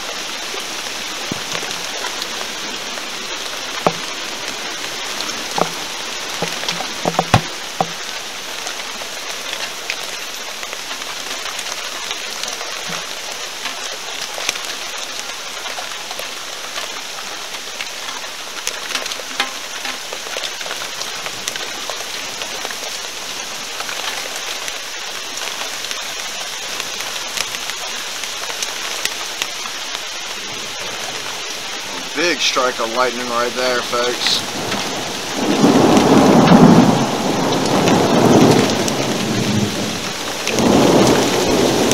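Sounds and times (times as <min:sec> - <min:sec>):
rain falling steadily: 0:00.0 - 0:41.9
raindrops ticking close by: 0:00.0 - 0:41.9.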